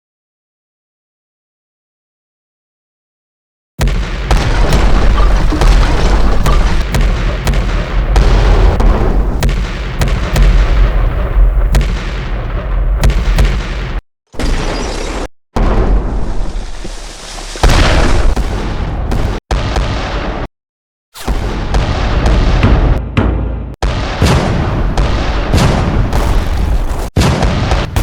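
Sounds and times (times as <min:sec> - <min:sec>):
gunshot-like cracks and booms: 0:03.8 - 0:20.5, 0:21.2 - 0:23.0, 0:23.8 - 0:28.0
heavy explosive rumble: 0:03.8 - 0:20.5, 0:21.2 - 0:28.0.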